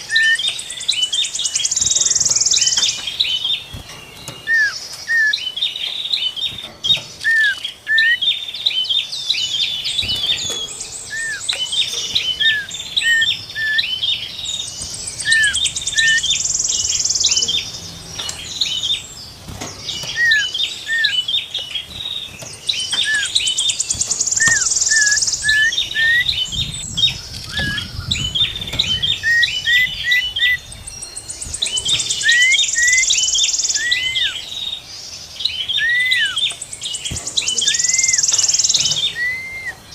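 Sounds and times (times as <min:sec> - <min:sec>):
buzzy rattling bird trill: 0:00.0 - 0:39.9
songbirds chirping and whistling: 0:00.0 - 0:39.9.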